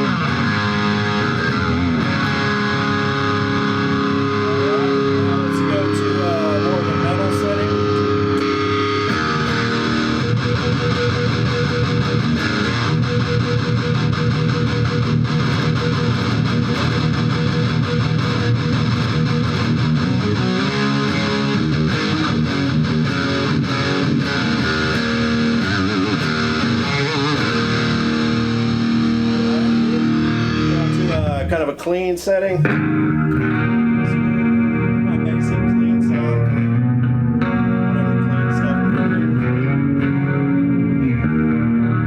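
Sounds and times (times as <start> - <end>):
overdriven electric guitar: 0.0 - 31.6, 32.5 - 42.0.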